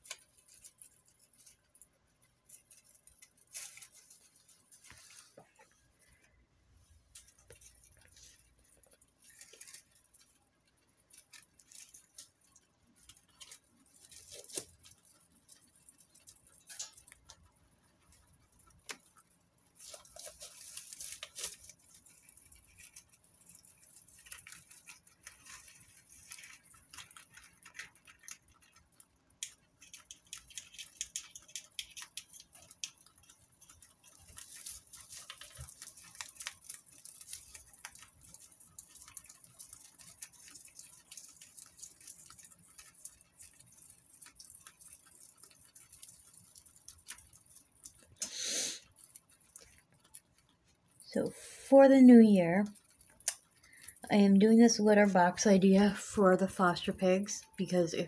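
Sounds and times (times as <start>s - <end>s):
guinea pigs rustling in hay: 0.0s - 58.0s.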